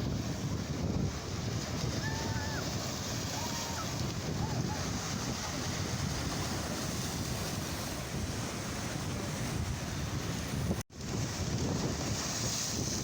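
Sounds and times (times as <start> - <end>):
sea waves washing on shore: 0.0 - 13.0
wind rumbling on microphone: 0.0 - 13.0.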